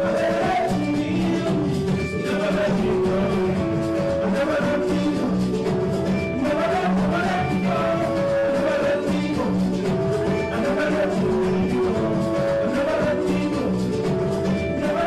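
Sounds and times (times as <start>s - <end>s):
instrumental accompaniment: 0.0s - 15.0s
man singing into a microphone: 0.0s - 15.0s
percussion steady beat: 0.0s - 15.0s.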